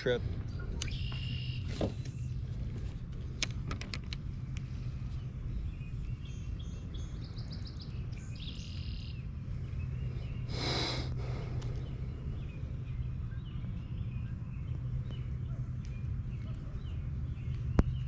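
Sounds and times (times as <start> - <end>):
birds chirping: 0.0 - 18.0
low hum and rumble: 0.0 - 18.0.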